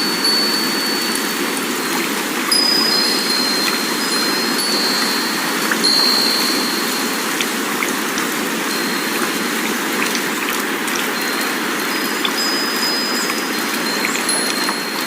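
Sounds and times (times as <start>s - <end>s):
metal wind chimes ringing: 0.0s - 15.0s.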